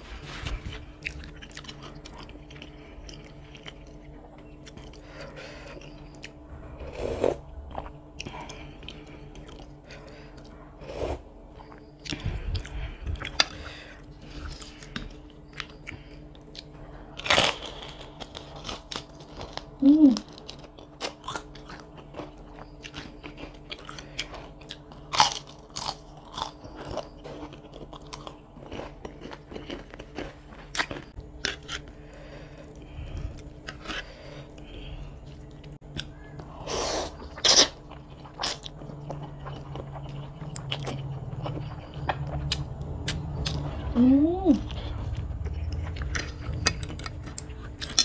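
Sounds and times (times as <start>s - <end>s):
crunchy food chewing: 0.1s - 48.0s.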